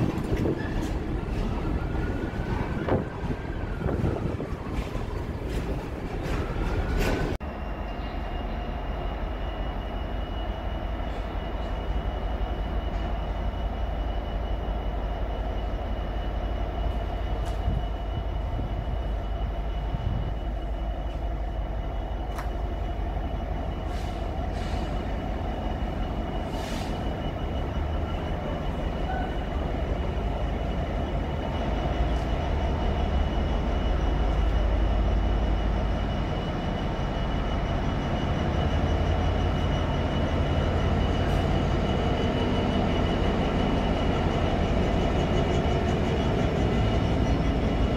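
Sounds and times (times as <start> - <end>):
diesel locomotive approaching: 0.0 - 47.9
freight train rolling past: 0.0 - 47.9.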